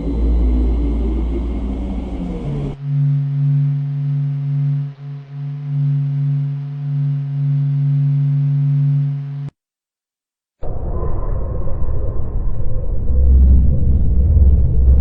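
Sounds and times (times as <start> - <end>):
low electronic drone: 0.0 - 9.5, 10.6 - 15.0.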